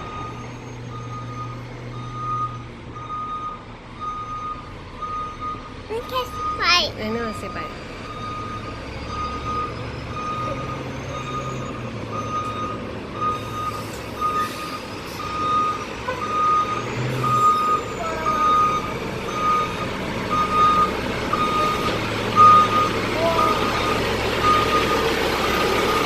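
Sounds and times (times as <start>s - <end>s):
reversing alarm beeping: 0.0s - 26.0s
truck engine hum: 0.0s - 26.0s.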